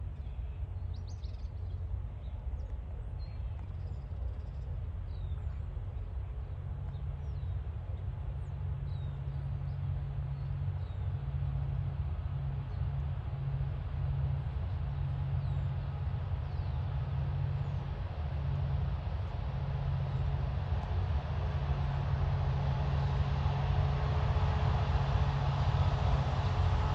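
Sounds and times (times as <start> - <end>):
locomotive engine drone: 1.5 - 26.9.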